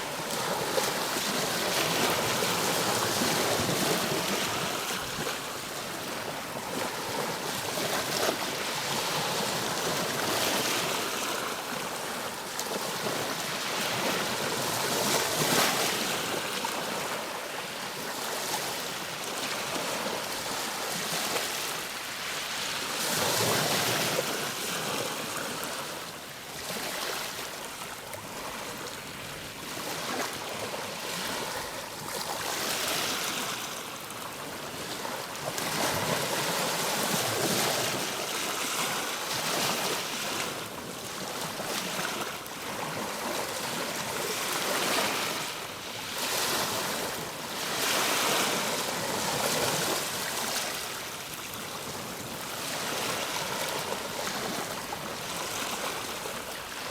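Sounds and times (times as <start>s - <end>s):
waves breaking: 0.0s - 56.9s.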